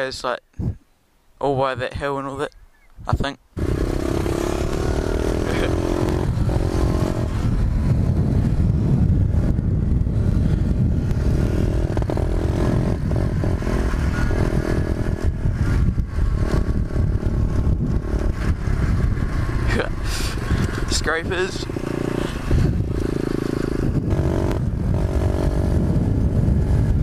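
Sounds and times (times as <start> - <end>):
wind rumble on microphone: 0.5 - 0.8, 2.9 - 27.0
motorbike engine running: 3.6 - 27.0.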